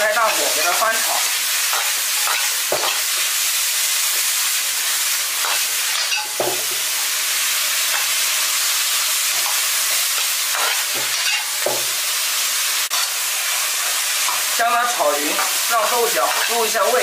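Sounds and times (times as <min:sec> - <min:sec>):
meat and beans sizzling in a wok: 0:00.0 - 0:17.0.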